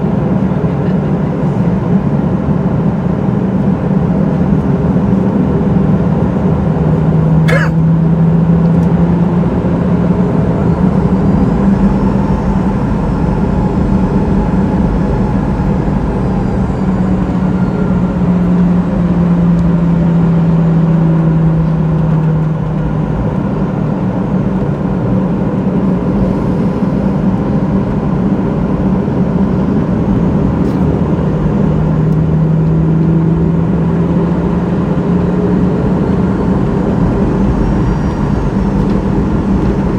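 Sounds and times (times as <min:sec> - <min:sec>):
airplane cabin engine drone: 0:00.0 - 0:39.9
faint high engine whine: 0:00.0 - 0:39.9.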